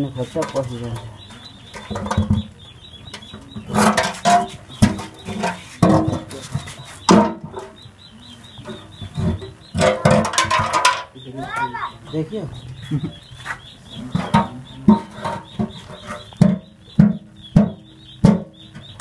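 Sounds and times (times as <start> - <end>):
metal tank clattering on concrete: 0.0 - 7.8, 8.6 - 12.2, 13.6 - 19.0
birds chirping faintly: 0.0 - 19.0.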